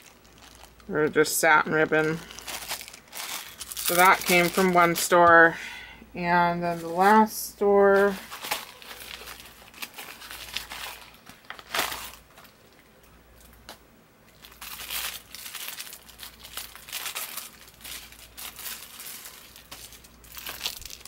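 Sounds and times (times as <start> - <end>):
plastic packaging crinkling: 0.0 - 5.6, 6.6 - 21.0.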